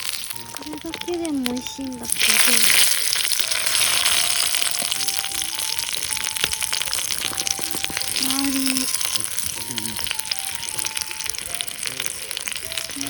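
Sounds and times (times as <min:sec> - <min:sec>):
patties sizzling in a pan: 0:00.0 - 0:13.0.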